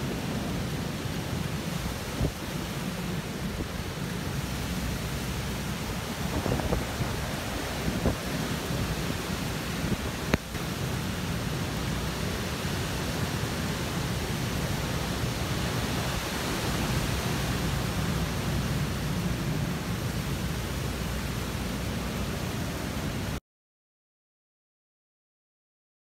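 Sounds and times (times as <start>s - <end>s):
strong wind rushing through trees: 0.0s - 23.4s.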